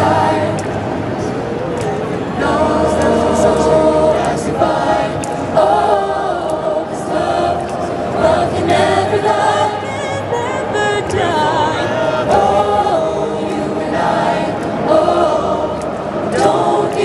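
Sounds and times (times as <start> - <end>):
choir singing through speakers: 0.0 - 17.0.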